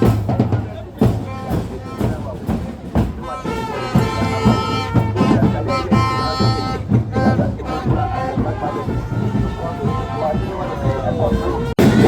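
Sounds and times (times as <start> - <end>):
drums beating a steady rhythm: 0.0 - 12.0.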